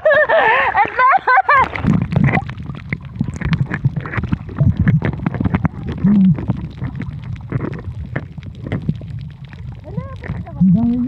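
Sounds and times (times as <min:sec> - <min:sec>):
underwater rumble of moving water: 0:00.0 - 0:11.0.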